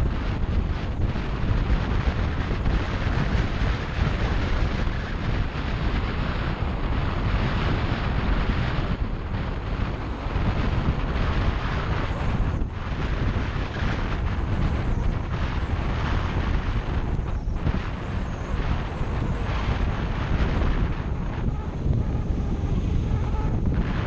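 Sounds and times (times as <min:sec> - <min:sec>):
motorcycle engine cruising: 0:00.0 - 0:24.0
wind buffeting microphone: 0:00.0 - 0:24.0.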